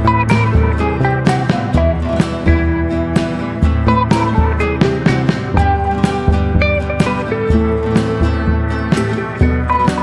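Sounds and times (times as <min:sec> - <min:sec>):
low thumping beat: 0:00.0 - 0:10.0
upbeat music with plucked guitar: 0:00.0 - 0:10.0.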